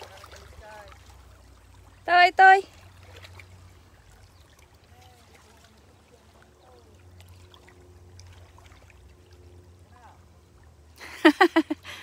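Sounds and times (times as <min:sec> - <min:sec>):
water lapping among rocks: 0:00.0 - 0:10.9
faint distant calls: 0:00.0 - 0:11.0.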